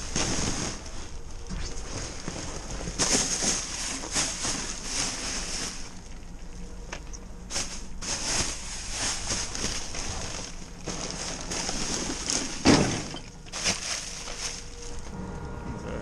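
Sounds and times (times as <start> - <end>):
plastic bags crinkling: 0.0 - 15.2.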